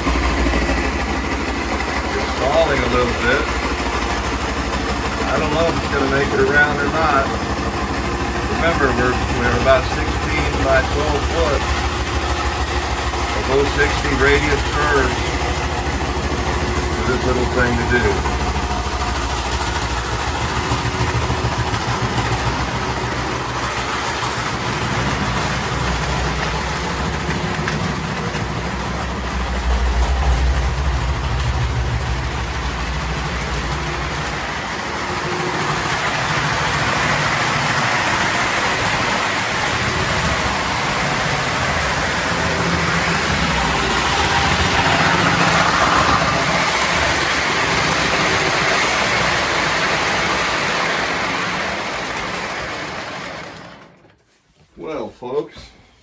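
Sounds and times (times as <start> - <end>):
toy train motor humming: 0.0 - 54.0
toy train wheels rattling on track: 0.0 - 54.1.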